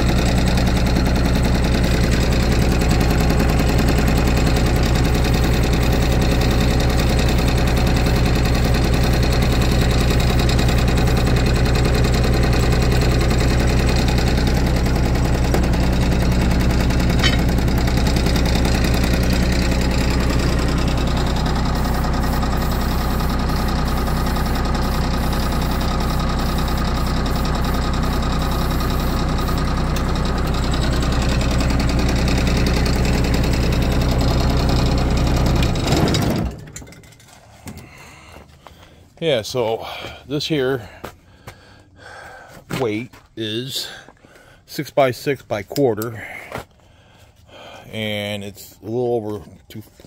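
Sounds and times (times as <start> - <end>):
tractor engine idling: 0.0 - 48.3.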